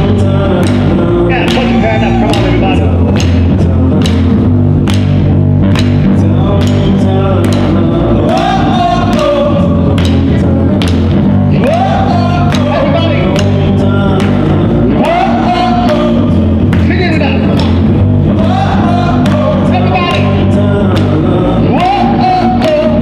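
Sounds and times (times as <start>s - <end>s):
person singing: 0.0s - 4.3s, 6.1s - 16.4s, 18.4s - 23.0s
electric guitars: 0.0s - 23.0s
steady drum beat: 0.0s - 23.0s.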